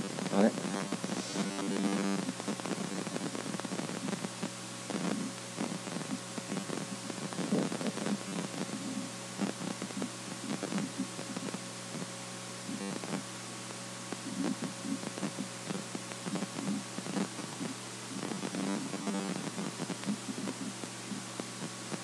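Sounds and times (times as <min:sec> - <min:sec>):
electrical hum and hiss: 0:00.0 - 0:22.0.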